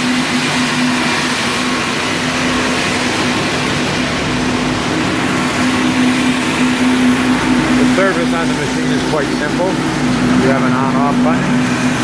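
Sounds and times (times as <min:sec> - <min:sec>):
machinery low hum: 0:00.0 - 0:12.0
vacuum hoses hissing: 0:00.0 - 0:12.0.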